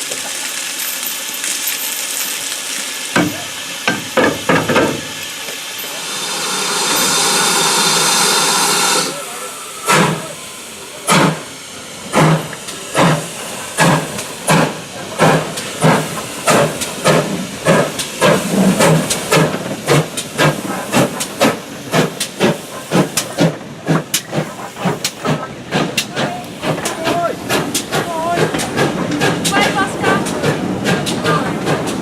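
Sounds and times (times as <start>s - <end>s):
steam hiss: 0.0s - 32.0s
steam locomotive exhaust chuffs: 3.0s - 32.0s.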